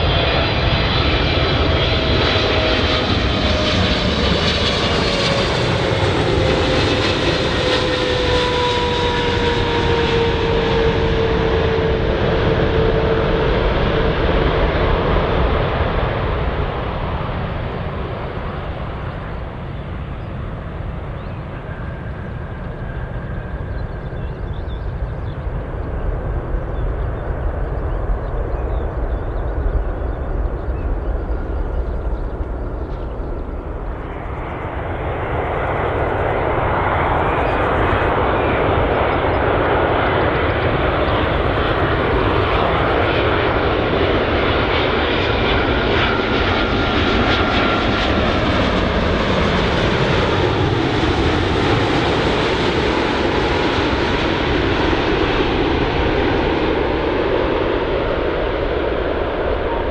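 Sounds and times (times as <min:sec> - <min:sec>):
high jet engine whine: 0:00.0 - 0:59.9
jet airliner engines roaring: 0:00.0 - 0:59.9.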